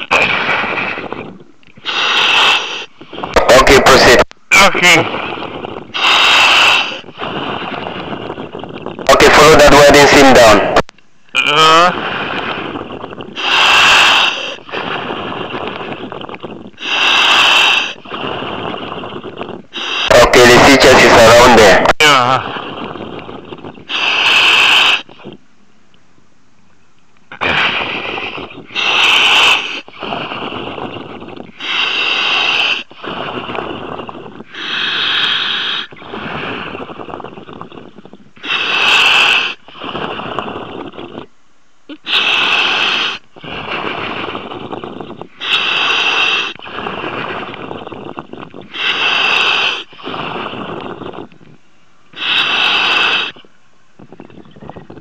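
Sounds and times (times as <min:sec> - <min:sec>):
diver breathing through regulator: 0:00.0 - 0:03.4, 0:04.9 - 0:09.2, 0:11.9 - 0:21.8, 0:22.4 - 0:25.4, 0:27.3 - 0:41.3, 0:41.9 - 0:54.3.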